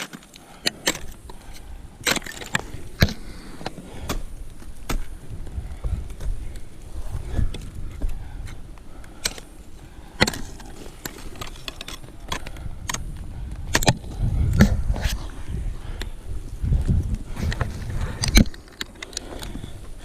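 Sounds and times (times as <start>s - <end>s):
low rumbling microphone noise: 1.0s - 20.0s.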